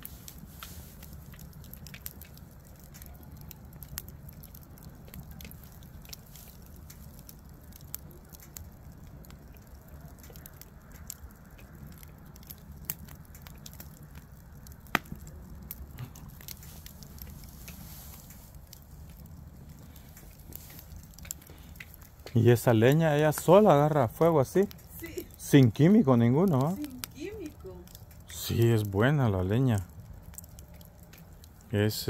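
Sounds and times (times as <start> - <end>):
bonfire crackling and popping: 0.0 - 32.0
low rumble of burning fire: 0.0 - 32.0.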